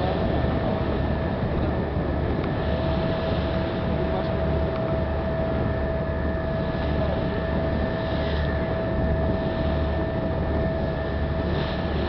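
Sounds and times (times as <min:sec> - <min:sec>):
ferry engine drone: 0:00.0 - 0:12.0
wind and water hiss: 0:00.0 - 0:12.0.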